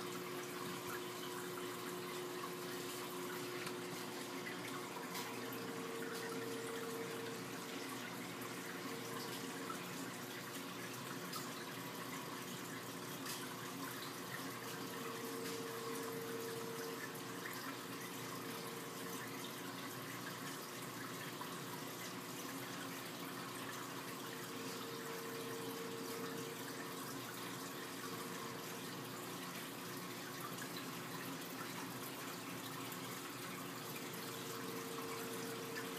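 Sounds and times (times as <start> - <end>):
aquarium water trickling: 0.0 - 35.9
faint hum: 0.0 - 35.9.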